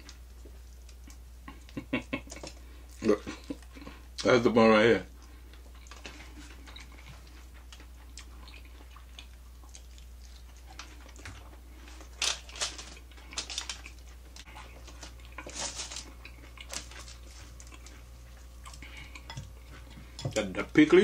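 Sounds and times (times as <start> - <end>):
fried food crackling while chewed: 0.0 - 21.0.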